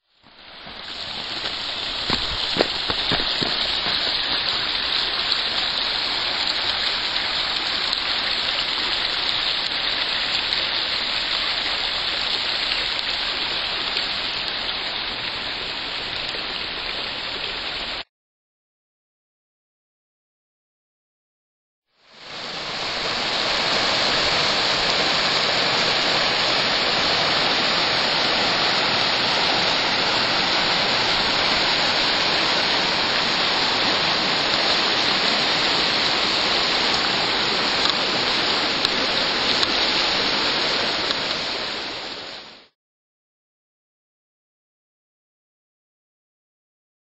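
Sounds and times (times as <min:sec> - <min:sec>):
river water rushing: 0:00.2 - 0:18.0, 0:22.0 - 0:42.7.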